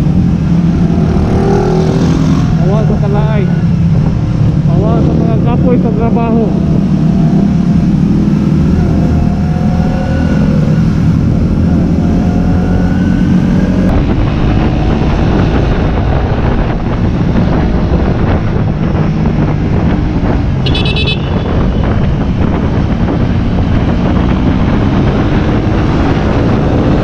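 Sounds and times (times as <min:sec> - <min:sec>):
motorcycle engine running: 0:00.0 - 0:27.0
wind rushing over microphone: 0:00.0 - 0:27.0.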